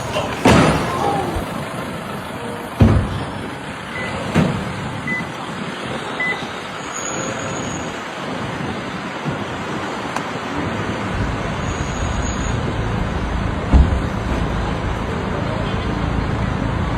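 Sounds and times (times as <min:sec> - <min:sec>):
road vehicle running: 0:00.0 - 0:16.9.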